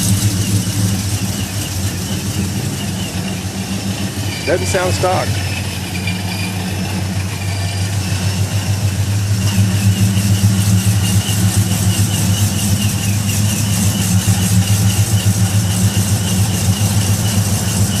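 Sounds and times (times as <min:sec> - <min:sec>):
car engine idling with lope: 0:00.0 - 0:18.0.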